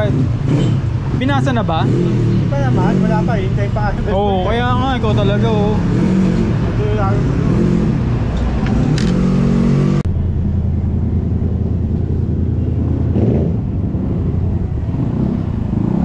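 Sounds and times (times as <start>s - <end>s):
street traffic hum: 0.0s - 16.0s.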